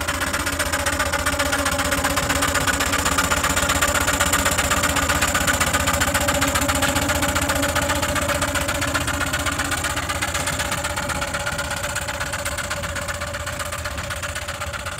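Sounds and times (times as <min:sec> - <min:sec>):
model steam engine chuffing: 0:00.0 - 0:14.9.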